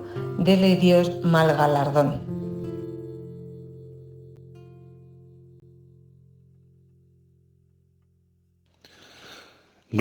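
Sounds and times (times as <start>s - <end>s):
acoustic guitar chord ringing: 0.0s - 9.4s.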